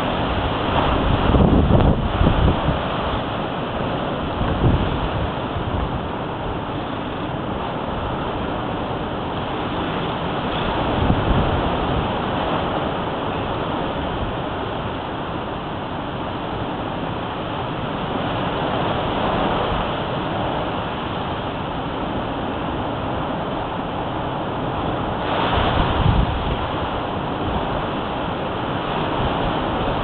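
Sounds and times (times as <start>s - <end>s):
wind buffeting microphone: 0.0s - 15.6s, 16.2s - 30.0s
strong wind rushing through trees: 0.0s - 30.0s.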